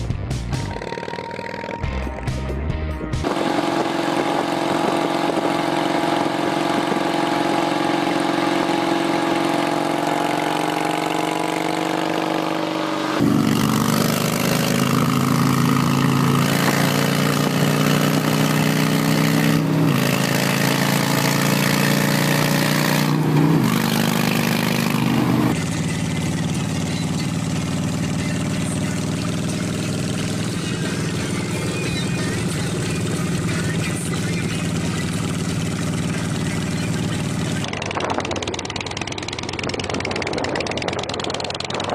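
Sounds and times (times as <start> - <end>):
motorcycle exhaust at cruising speed: 0.0 - 2.5, 3.1 - 41.9.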